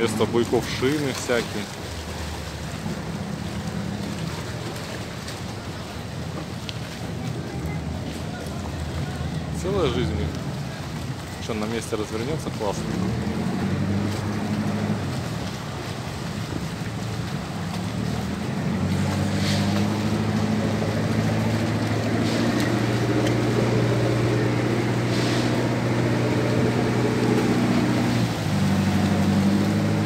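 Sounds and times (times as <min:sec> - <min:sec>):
outboard motors running: 0:00.0 - 0:30.0
water churning: 0:00.0 - 0:30.0.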